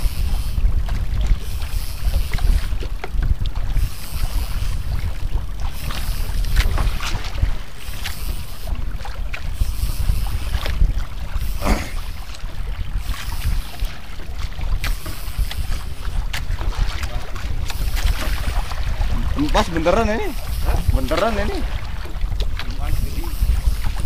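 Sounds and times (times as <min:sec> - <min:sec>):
waves slapping against boat hull: 0:00.0 - 0:24.0
wind buffeting microphone: 0:00.0 - 0:24.0.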